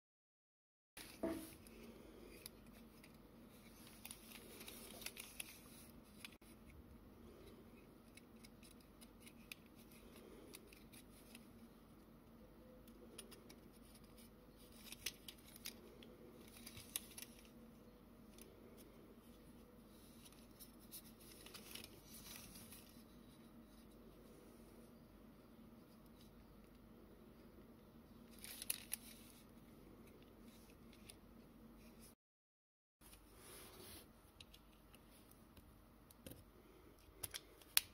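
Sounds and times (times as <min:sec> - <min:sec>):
faint low hum: 0:01.0 - 0:32.2.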